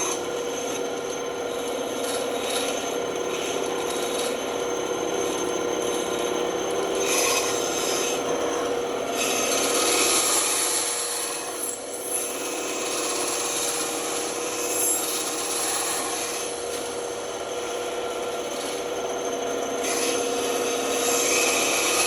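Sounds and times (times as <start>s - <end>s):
band saw cutting wood: 0.0s - 22.0s.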